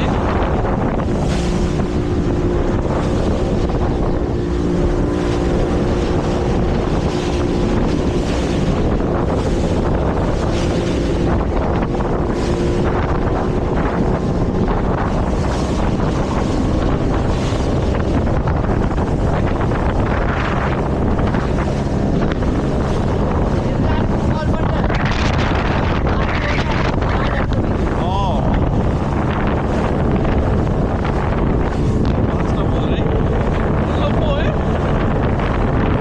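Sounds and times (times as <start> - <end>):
motorboat engine drone: 0.0 - 36.0
water rushing past hull: 0.0 - 36.0
wind buffeting microphone: 0.0 - 36.0.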